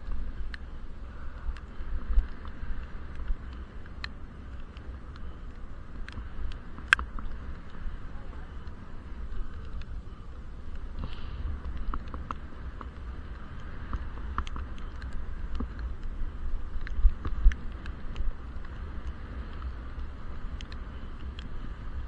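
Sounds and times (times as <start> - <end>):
light ticks: 0.0 - 22.0
wind rumble on camera: 0.0 - 22.0.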